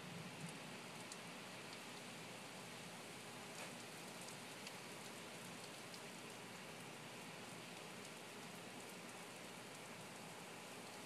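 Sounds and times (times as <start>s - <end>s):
heavy rain falling: 0.0s - 11.0s
raindrops ticking: 0.0s - 11.0s.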